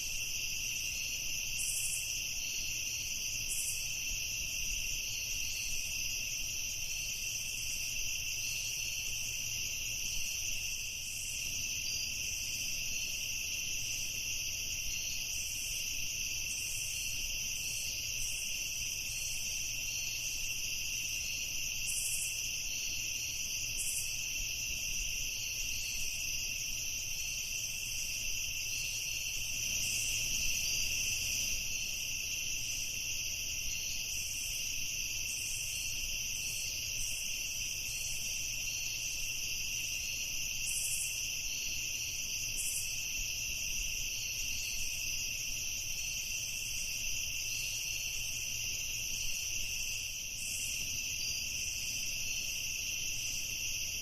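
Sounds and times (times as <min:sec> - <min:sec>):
night insects trilling: 0:00.0 - 0:54.0.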